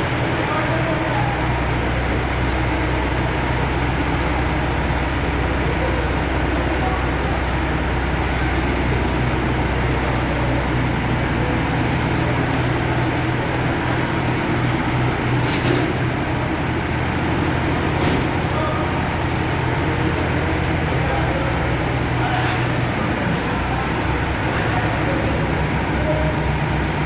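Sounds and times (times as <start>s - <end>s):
heavy machinery engine humming: 0.0s - 27.0s.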